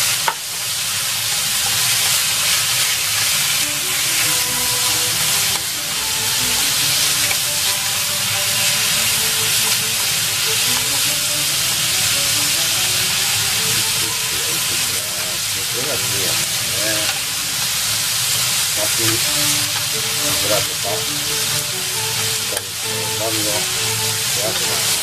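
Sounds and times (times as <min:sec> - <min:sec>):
beef and eggplant sizzling: 0:00.0 - 0:25.0
chopsticks stirring food: 0:00.0 - 0:25.0.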